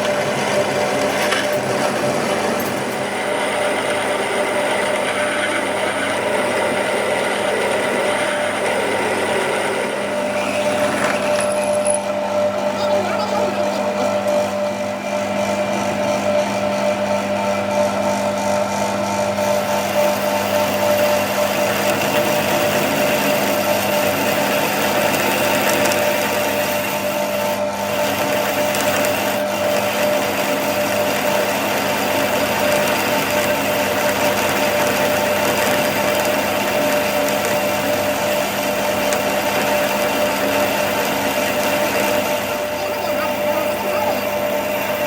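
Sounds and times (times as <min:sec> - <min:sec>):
power tool whining under load: 0:00.0 - 0:45.0.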